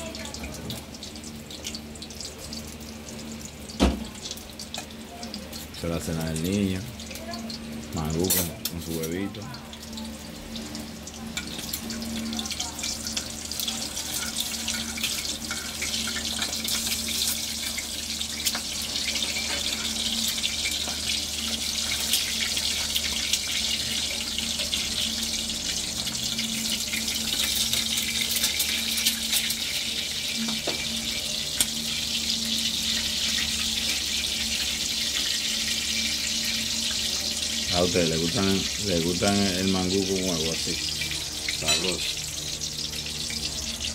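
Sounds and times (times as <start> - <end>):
egg frying in hot oil: 0.0 - 43.9.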